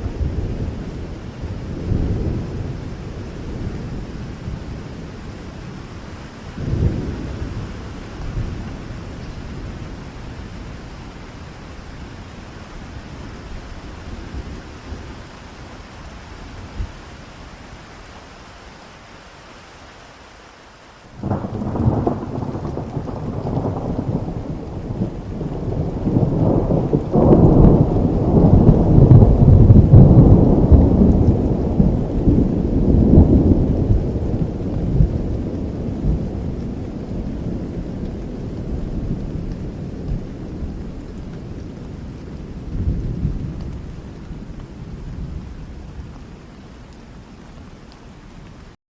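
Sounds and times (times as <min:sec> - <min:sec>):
thunder rumbling: 0:00.0 - 0:17.0, 0:21.2 - 0:47.6
steady rain: 0:00.0 - 0:48.8.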